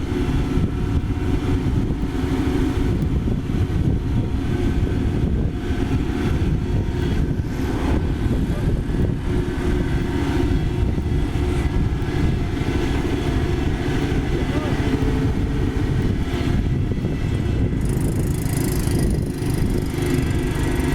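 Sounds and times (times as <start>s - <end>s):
diesel engine running steadily: 0.0s - 20.9s.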